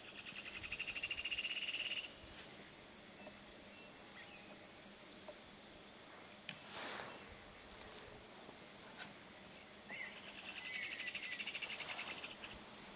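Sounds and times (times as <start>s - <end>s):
birds chirping: 0.0s - 6.4s, 7.0s - 12.9s.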